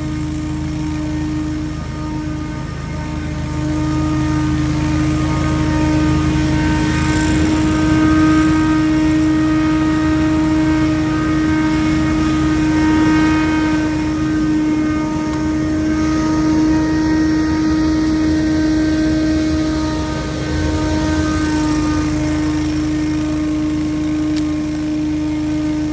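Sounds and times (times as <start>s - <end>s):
machine engine droning: 0.0s - 25.9s.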